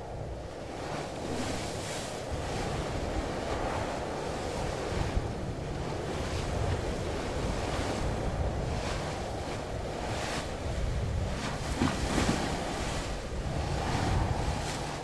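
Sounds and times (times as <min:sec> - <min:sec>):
low rumble on microphone: 0:00.0 - 0:15.0
waves washing: 0:00.0 - 0:15.0
wind rushing: 0:00.0 - 0:15.0.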